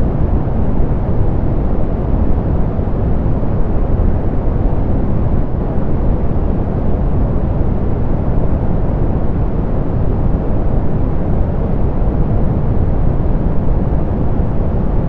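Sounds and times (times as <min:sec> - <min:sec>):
deep pink noise: 0:00.0 - 0:15.0.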